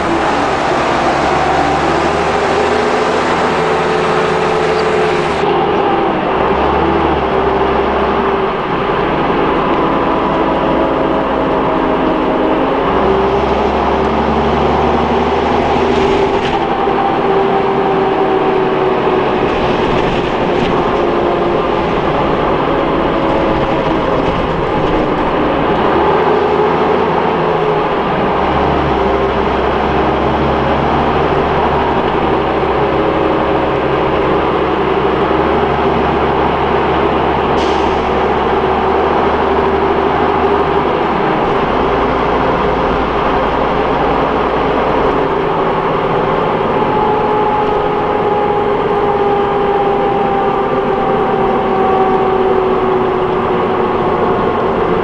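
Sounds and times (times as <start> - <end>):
bus engine and road drone: 0.0 - 55.0.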